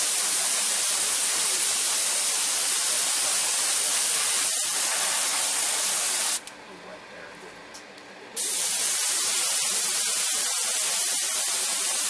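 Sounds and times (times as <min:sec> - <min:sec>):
airbrush hissing: 0:00.0 - 0:06.4, 0:08.4 - 0:12.0.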